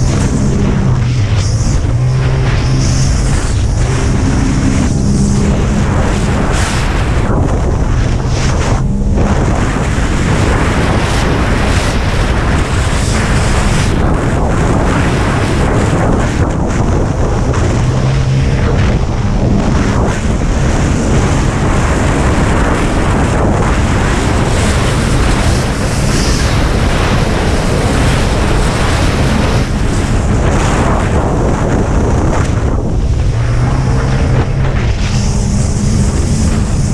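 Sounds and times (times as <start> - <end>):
jet ski engine: 0.0 - 36.9
wind buffeting on microphone: 0.0 - 36.9.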